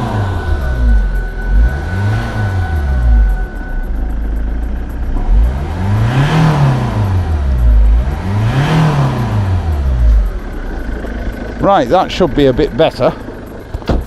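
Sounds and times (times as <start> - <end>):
diesel engine revving: 0.0 - 14.0.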